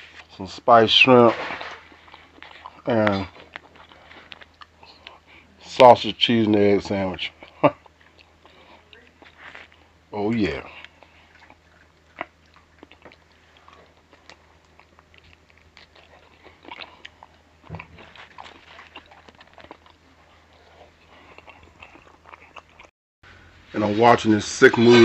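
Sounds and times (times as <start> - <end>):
person chewing food: 1.5 - 5.7, 6.9 - 22.9.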